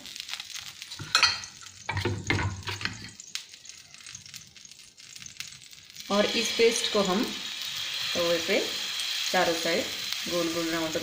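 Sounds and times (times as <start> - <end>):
hot iron pan crackling: 0.0 - 11.0.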